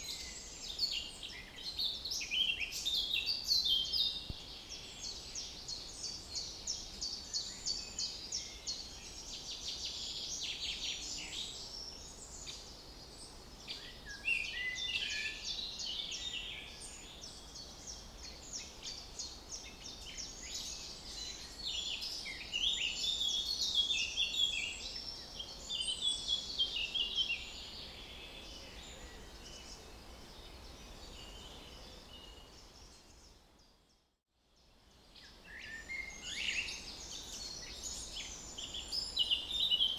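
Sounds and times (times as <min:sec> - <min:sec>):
songbirds singing and chirping: 0:00.0 - 0:33.8, 0:34.6 - 0:39.9.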